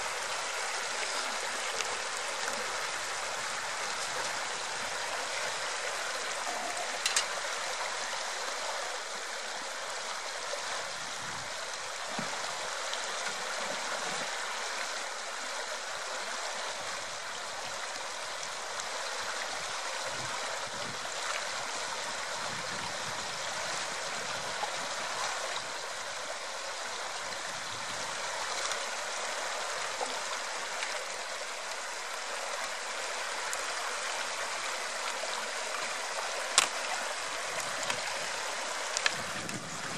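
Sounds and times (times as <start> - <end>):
river running over stones: 0.0 - 39.9.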